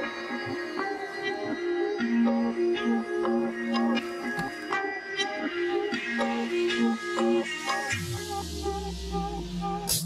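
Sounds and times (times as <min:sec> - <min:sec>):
instrumental music with struck notes: 0:00.0 - 0:10.0.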